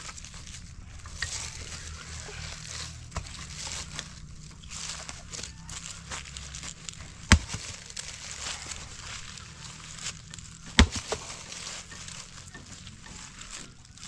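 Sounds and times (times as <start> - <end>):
faint rustling and crackling: 0.0 - 14.0.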